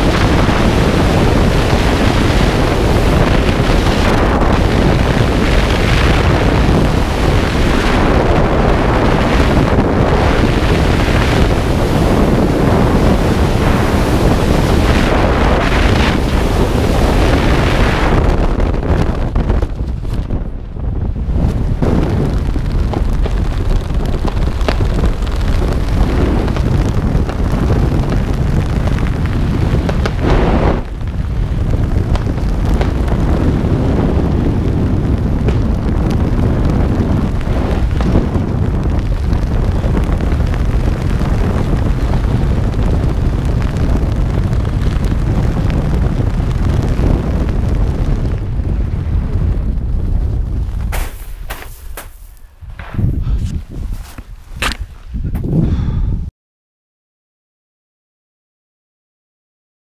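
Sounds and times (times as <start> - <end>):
strong wind rushing over microphone: 0.0 - 56.3.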